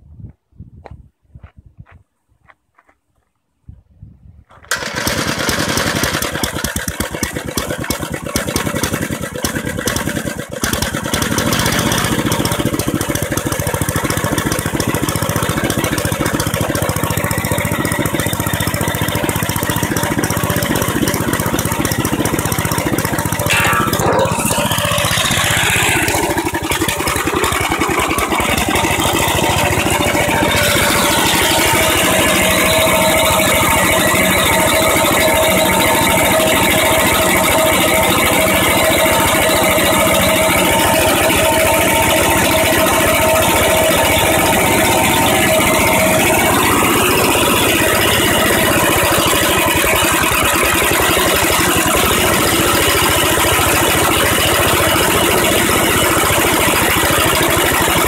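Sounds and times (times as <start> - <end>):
tractor engine starting and running: 4.5 - 58.0.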